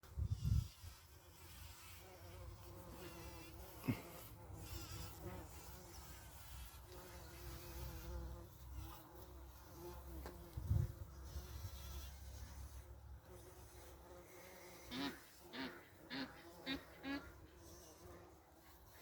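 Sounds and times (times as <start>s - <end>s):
bumblebee buzzing: 0.1s - 19.0s.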